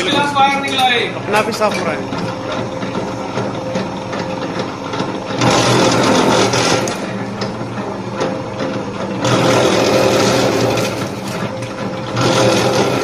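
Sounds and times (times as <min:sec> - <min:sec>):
wire stripping machine humming: 0:00.0 - 0:13.0.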